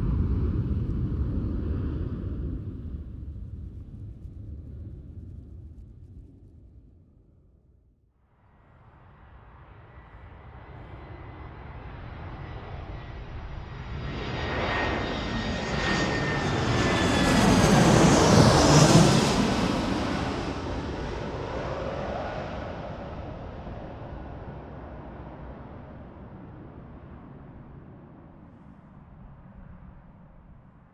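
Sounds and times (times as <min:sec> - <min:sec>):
airliner flying past: 0:00.0 - 0:07.2, 0:08.7 - 0:30.9.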